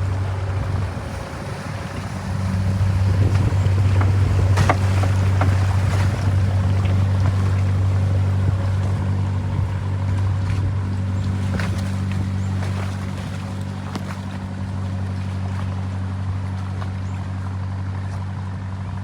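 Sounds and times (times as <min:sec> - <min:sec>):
boat engine humming: 0:00.0 - 0:19.0
water noise: 0:00.0 - 0:19.0
wind: 0:00.0 - 0:19.0.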